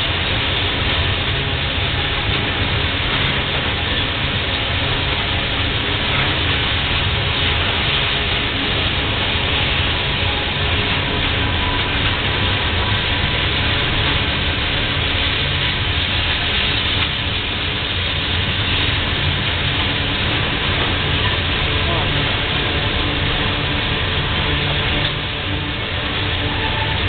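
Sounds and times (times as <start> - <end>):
freight train rolling on rails: 0.0 - 27.0.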